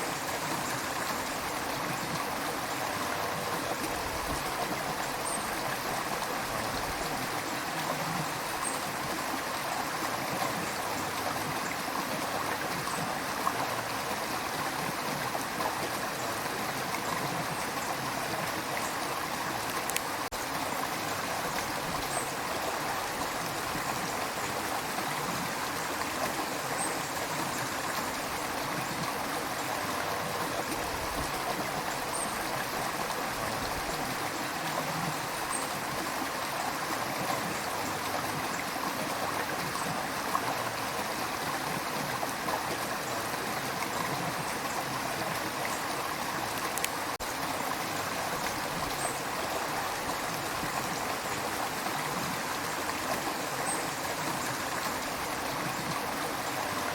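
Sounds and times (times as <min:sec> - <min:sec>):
river water flowing over stones: 0:00.0 - 0:56.9.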